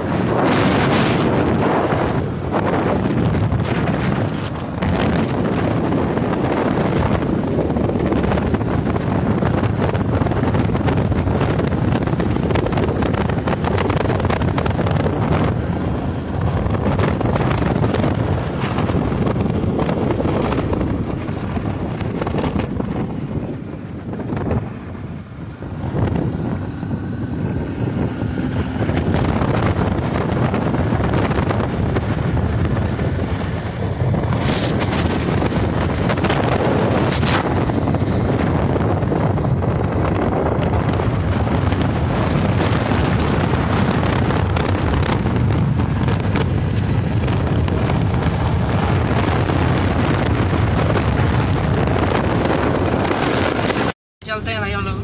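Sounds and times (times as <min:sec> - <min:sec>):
motorcycle and road rumble: 0:00.0 - 0:55.0
wind buffeting microphone: 0:00.0 - 0:55.0.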